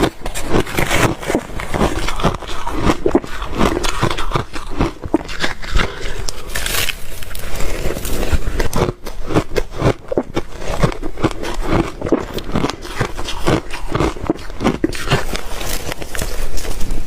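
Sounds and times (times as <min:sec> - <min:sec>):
ice being chewed: 0:00.0 - 0:17.0.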